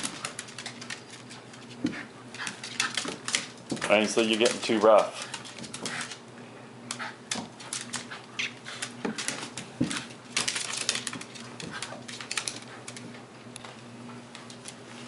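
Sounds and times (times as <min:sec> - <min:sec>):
claws clicking on wooden floor: 0:00.0 - 0:06.2, 0:06.9 - 0:13.1.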